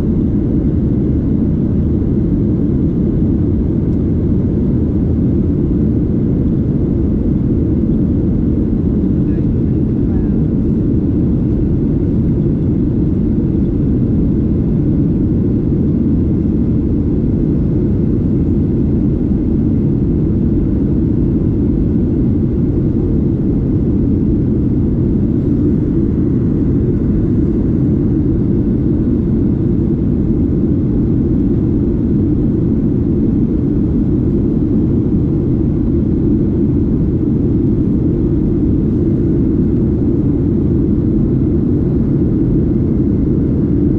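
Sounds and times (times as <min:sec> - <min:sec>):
jet engine rumble in cabin: 0:00.0 - 0:43.9.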